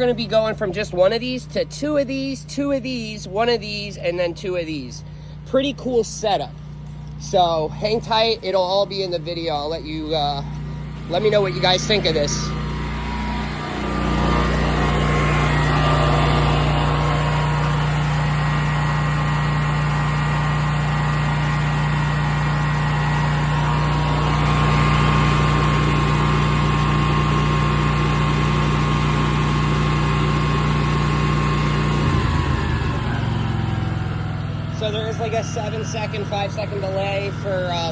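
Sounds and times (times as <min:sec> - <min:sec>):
generator engine running: 0:00.0 - 0:37.9.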